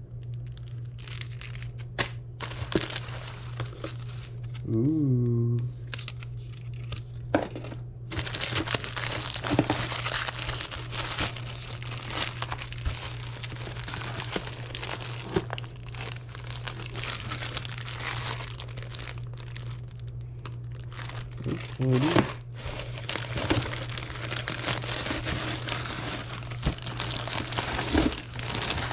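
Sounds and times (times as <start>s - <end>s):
low hum: 0.0s - 28.9s
paper and plastic crinkling: 0.3s - 4.6s, 5.8s - 28.9s.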